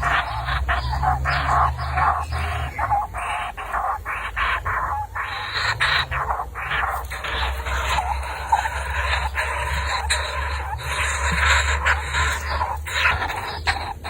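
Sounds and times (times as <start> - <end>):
baby bird begging calls: 0.0 - 14.0.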